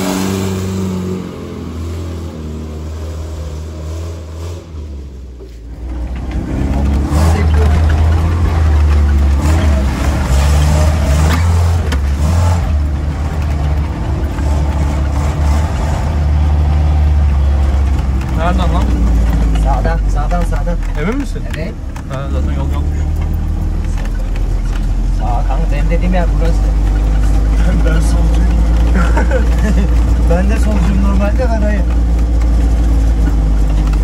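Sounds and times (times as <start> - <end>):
car engine drone: 0.0 - 34.0.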